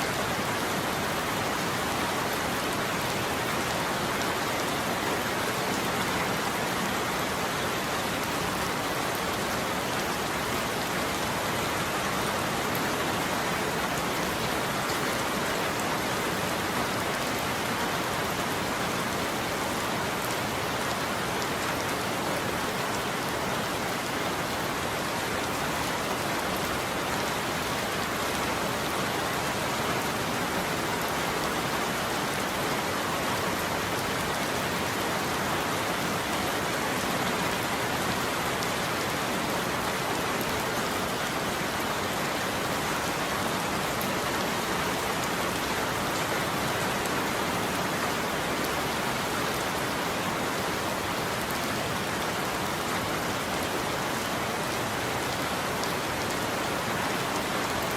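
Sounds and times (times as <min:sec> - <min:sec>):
heavy rain drumming on a roof: 0:00.0 - 0:57.9.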